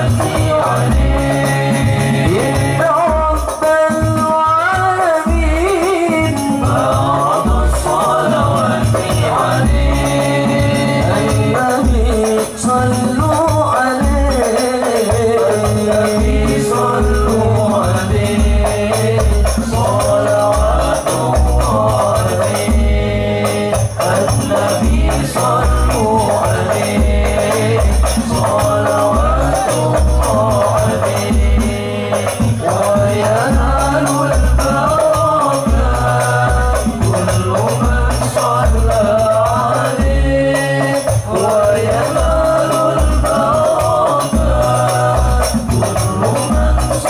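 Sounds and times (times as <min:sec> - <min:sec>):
frame drums beating: 0:00.0 - 0:47.0
men chanting together: 0:00.0 - 0:47.0.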